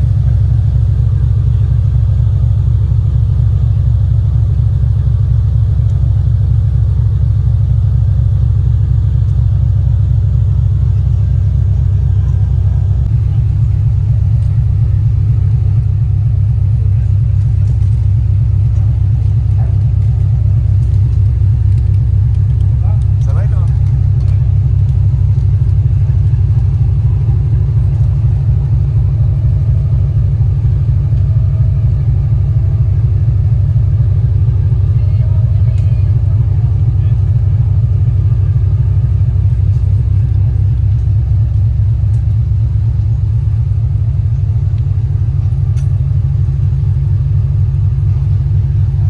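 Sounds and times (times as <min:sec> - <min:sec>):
yacht engines idling: 0:00.0 - 0:49.0.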